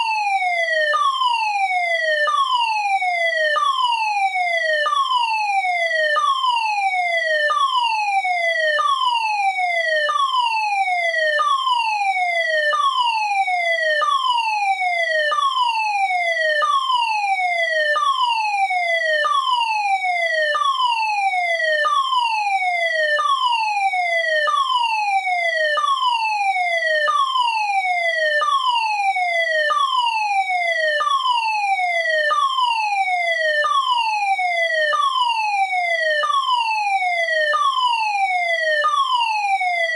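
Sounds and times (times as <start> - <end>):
fire alarm sounder falling tone: 0.0 - 39.9.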